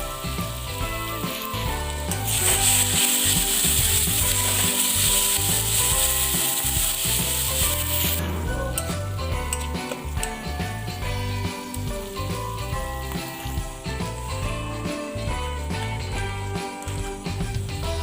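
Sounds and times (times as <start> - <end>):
food sizzling in hot oil: 0.0 - 8.2, 9.8 - 17.9
music with bass beat: 0.0 - 18.0.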